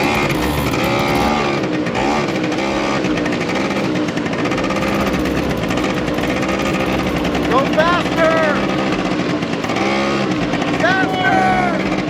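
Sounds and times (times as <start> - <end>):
small motorbike engine: 0.0 - 12.0.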